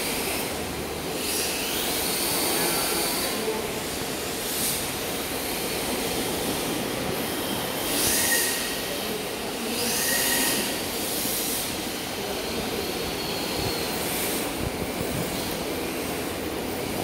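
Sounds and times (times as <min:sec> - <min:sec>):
motors whining: 0:00.0 - 0:17.0.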